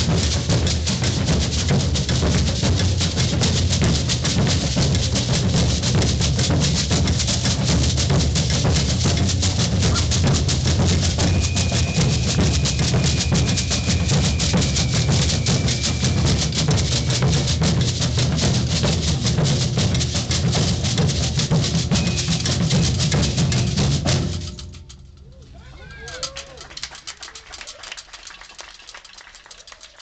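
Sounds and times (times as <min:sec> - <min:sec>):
deep bass drumming: 0:00.0 - 0:25.2
clicking and shaking percussion: 0:00.0 - 0:30.0.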